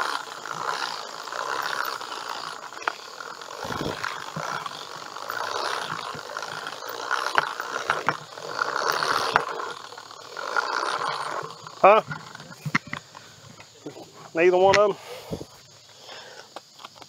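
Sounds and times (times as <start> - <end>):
seed spreader whirring: 0.0 - 16.5.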